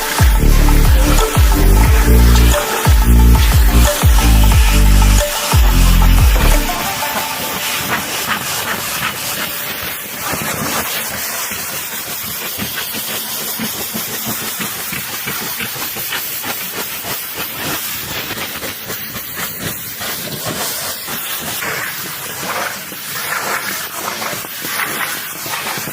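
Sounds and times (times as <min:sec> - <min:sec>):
pressure washer spraying: 0:00.0 - 0:25.9.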